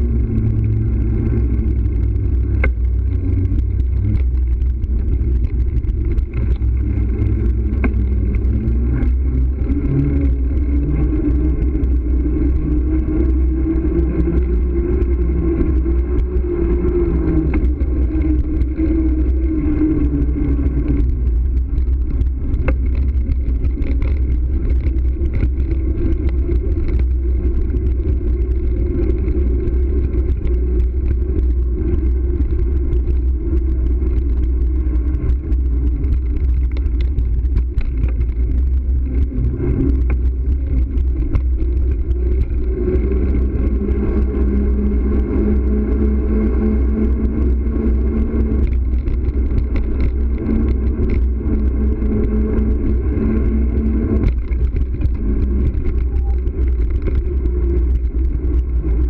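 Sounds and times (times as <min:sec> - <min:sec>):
bicycle tyres rolling on pavement: 0:00.0 - 0:59.0
steady hum: 0:00.0 - 0:59.0
wind buffeting: 0:00.0 - 0:59.0.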